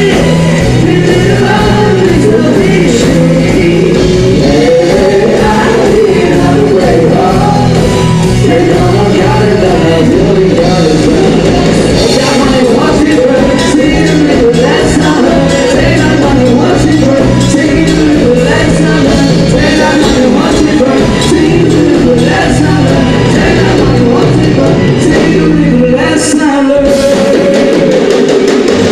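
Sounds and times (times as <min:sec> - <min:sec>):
live band playing: 0:00.0 - 0:28.9
voices singing: 0:00.0 - 0:28.9.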